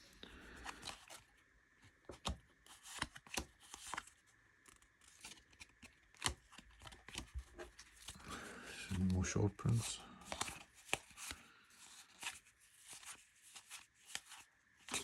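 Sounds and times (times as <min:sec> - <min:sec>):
cards tapping sliding and rustling: 0:02.0 - 0:15.0.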